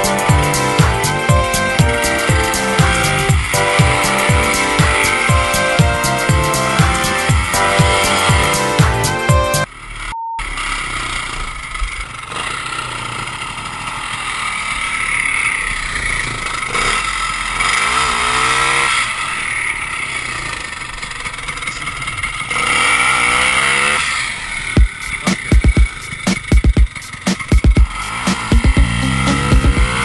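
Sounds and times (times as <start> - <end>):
snowmobile engine revving: 0.0 - 30.0.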